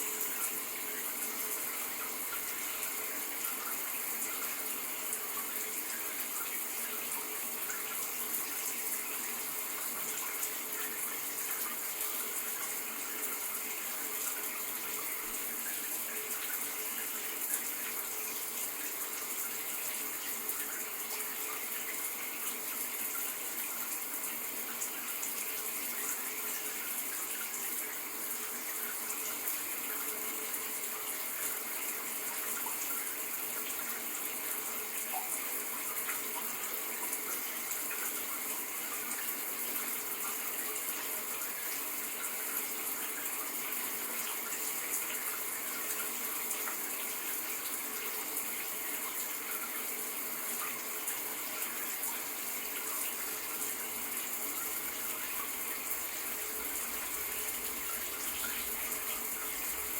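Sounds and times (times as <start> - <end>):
shower water running: 0.0 - 59.9.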